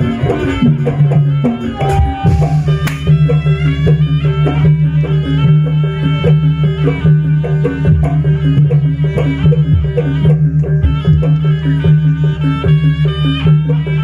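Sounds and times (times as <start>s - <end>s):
hand drums beating: 0.0s - 14.0s
reedy wind melody: 0.0s - 14.0s.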